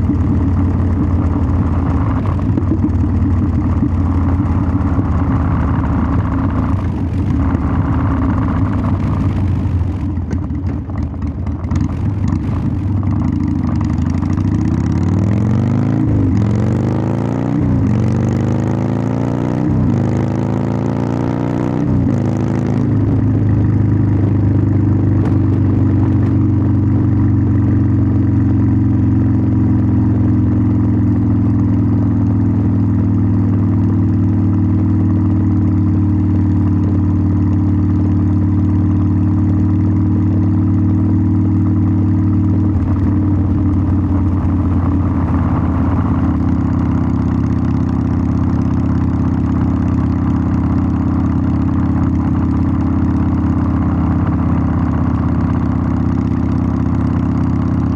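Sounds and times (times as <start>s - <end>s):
motorcycle exhaust: 0.0s - 57.9s.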